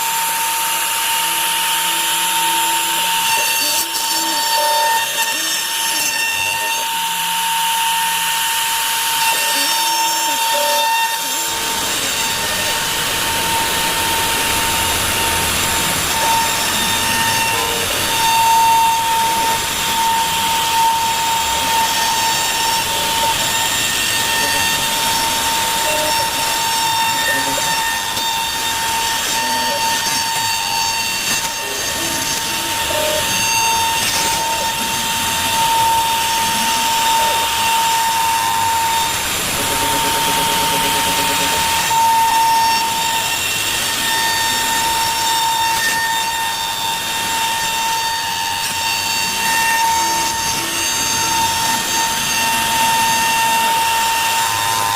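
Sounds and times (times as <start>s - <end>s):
router spindle whine: 0.0s - 54.9s.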